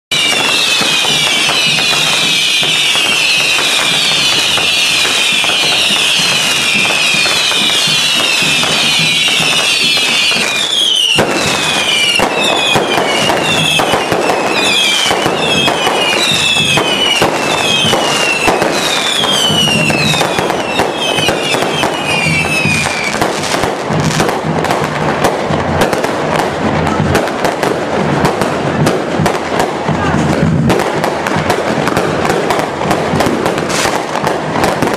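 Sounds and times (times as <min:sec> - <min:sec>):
fireworks bangs: 0:00.1 - 0:34.9
fireworks crackling: 0:00.1 - 0:34.9
whistling fireworks: 0:00.1 - 0:34.9.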